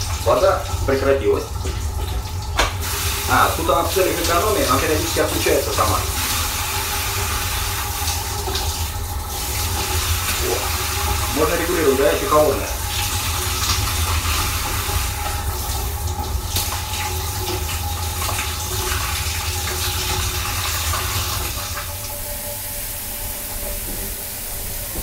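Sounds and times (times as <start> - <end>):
shower water splashing: 0.0 - 25.0.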